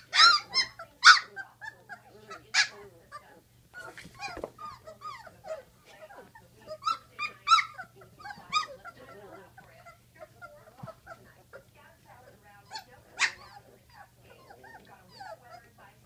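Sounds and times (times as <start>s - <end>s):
puppies whining and squealing: 0.0s - 15.8s.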